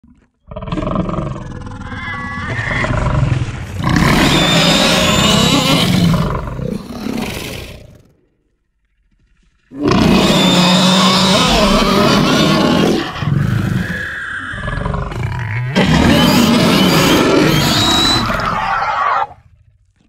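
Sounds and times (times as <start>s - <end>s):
monster growling roar: 0.5s - 8.0s, 9.7s - 19.4s.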